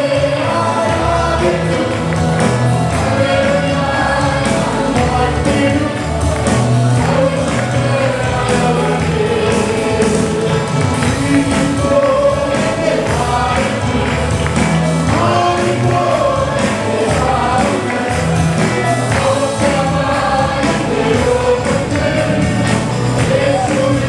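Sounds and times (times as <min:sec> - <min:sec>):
band accompaniment: 0:00.0 - 0:24.0
choir singing gospel song: 0:00.0 - 0:24.0.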